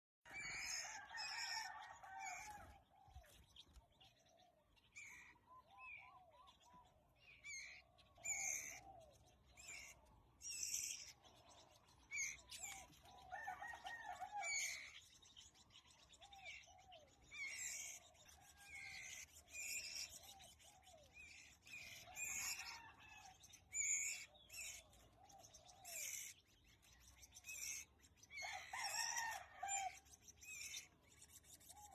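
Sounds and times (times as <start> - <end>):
birds chirping and calling: 0.3 - 31.9.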